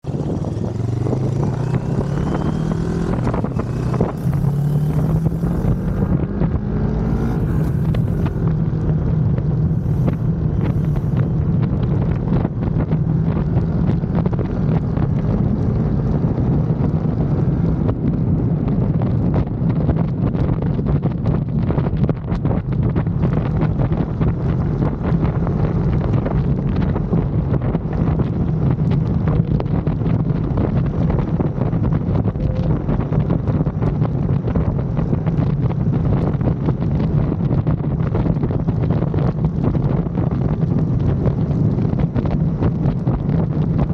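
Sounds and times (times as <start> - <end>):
motorcycle engine running: 0.0 - 43.9
wind buffeting microphone: 0.0 - 43.9.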